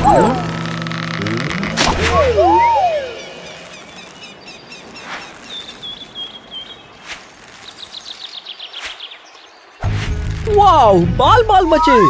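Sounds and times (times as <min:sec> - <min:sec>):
birds chirping: 0:00.0 - 0:10.0
steady hiss: 0:00.4 - 0:10.6.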